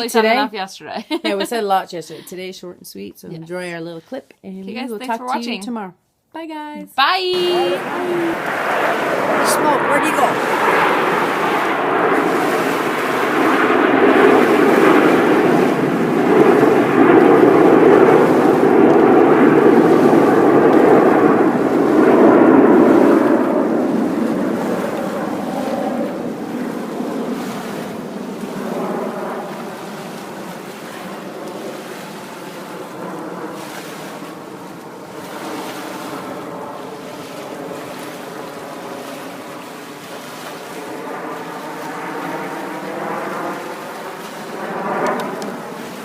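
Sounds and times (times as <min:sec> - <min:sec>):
jets roaring overhead: 0:07.2 - 0:46.0.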